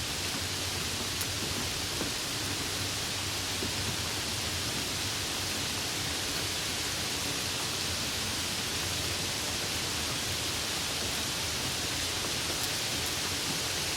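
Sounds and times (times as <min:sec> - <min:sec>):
steady rain hiss: 0:00.0 - 0:13.9.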